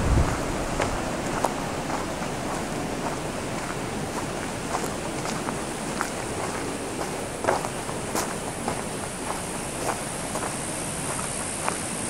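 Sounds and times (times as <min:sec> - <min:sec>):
footsteps on gravel: 0:00.0 - 0:12.0
steady background hiss: 0:00.0 - 0:12.0.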